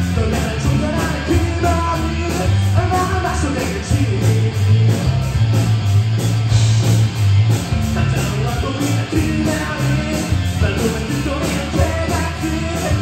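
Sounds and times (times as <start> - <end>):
drum kit steady beat: 0.0 - 13.0
electric bass low notes: 0.0 - 13.0
electric guitars: 0.0 - 13.0.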